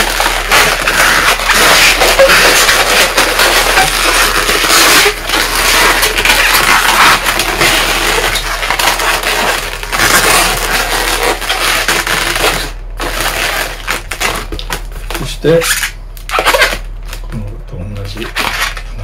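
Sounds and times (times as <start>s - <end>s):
balloons crinkling and rubbing: 0.0s - 19.0s.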